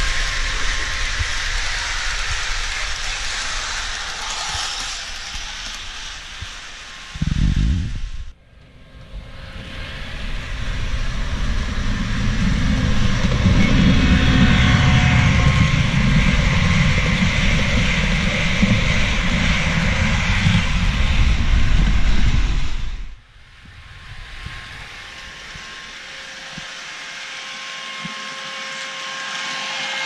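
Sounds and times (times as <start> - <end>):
high-speed train passing: 0.0 - 30.0.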